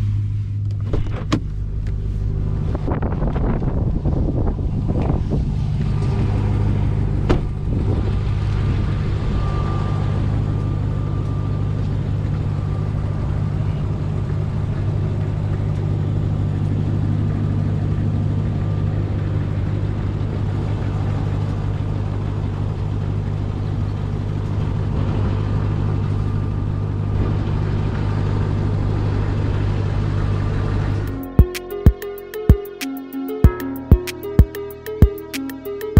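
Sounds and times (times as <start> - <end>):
truck engine droning: 1.4 - 32.4.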